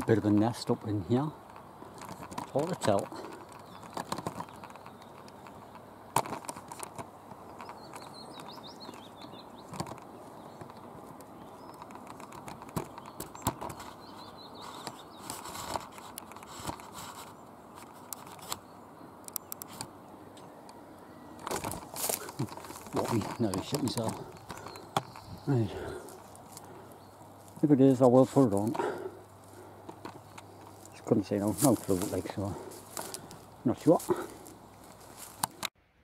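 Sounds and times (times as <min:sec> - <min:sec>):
handling clicks and rustles: 0:00.0 - 0:20.8, 0:21.4 - 0:35.8
faint birdsong: 0:00.0 - 0:36.0.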